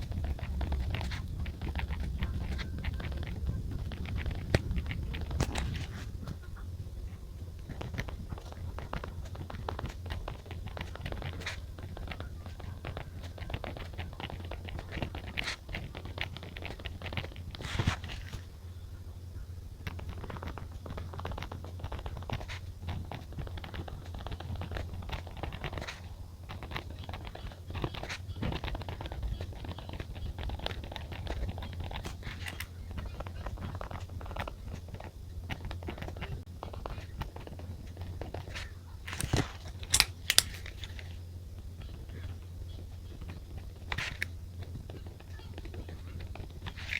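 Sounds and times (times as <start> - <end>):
paper rustling and scratching: 0.0 - 19.1, 19.8 - 46.9
low steady hum: 0.0 - 46.9.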